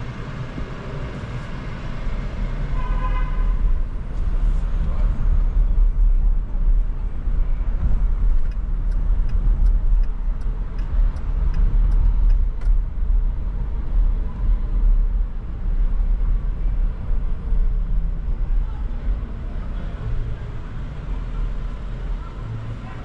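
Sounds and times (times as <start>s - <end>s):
car driving rumble: 0.0s - 23.0s.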